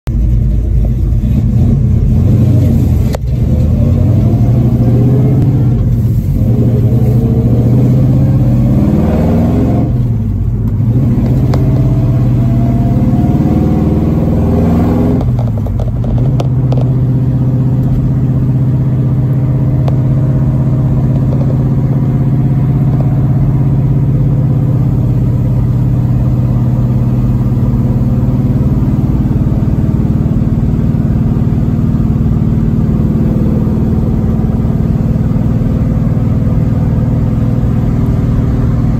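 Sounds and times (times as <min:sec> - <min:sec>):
car engine accelerating: 0:00.1 - 0:38.9.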